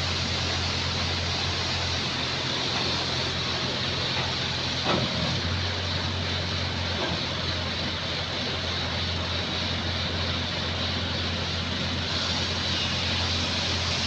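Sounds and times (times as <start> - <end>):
large engine humming: 0.0 - 14.0.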